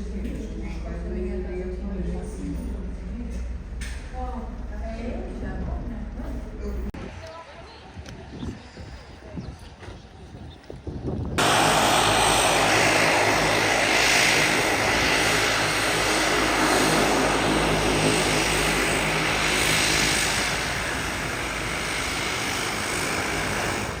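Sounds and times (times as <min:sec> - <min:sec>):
turboprop engines running: 0:00.0 - 0:09.0, 0:11.0 - 0:24.0.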